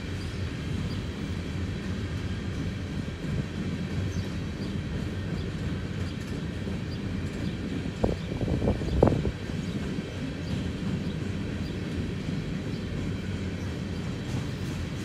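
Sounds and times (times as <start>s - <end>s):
train cars clanking: 0.0s - 15.0s
train wheels rumbling on rail: 0.0s - 15.0s.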